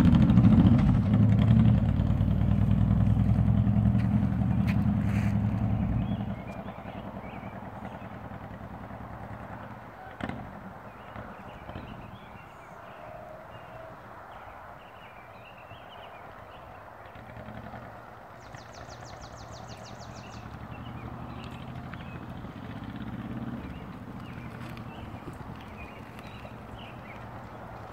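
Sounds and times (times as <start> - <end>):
motorcycle engine running: 0.0 - 12.5, 16.5 - 27.9
birds chirping: 0.3 - 27.9.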